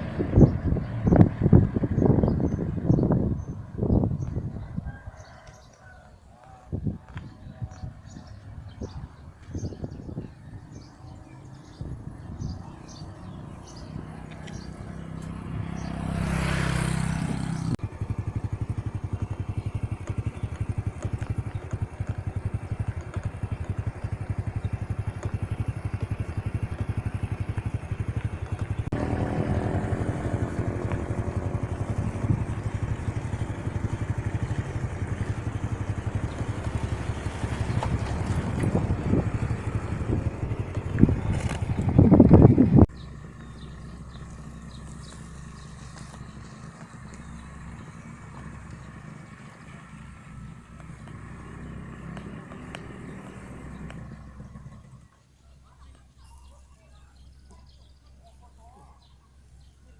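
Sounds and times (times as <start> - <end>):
motorcycle engine running: 0.0 - 6.0, 6.7 - 58.0
vehicle passing: 0.0 - 6.0, 8.1 - 55.2.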